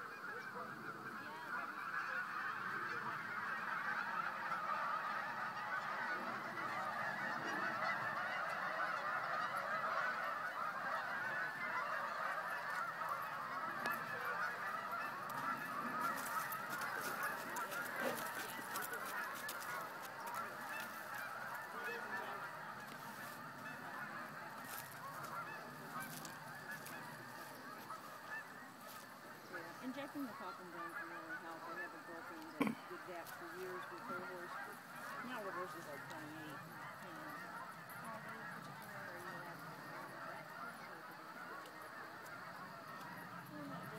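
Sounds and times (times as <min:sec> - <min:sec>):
geese honking: 0:00.0 - 0:43.9.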